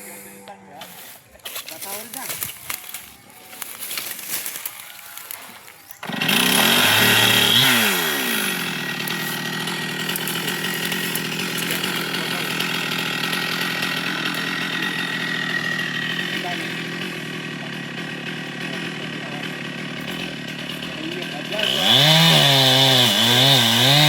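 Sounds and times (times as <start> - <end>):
chainsaw starting and running: 0.8 - 24.0.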